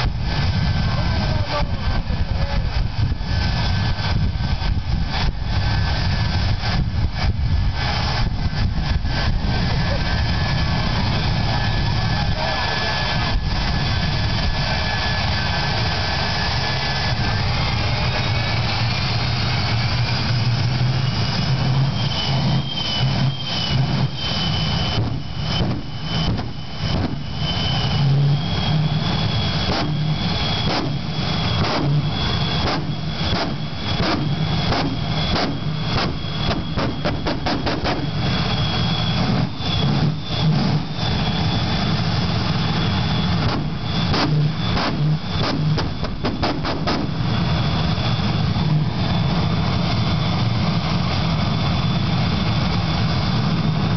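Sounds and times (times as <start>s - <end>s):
jet engine rush and whine: 0.0s - 53.9s.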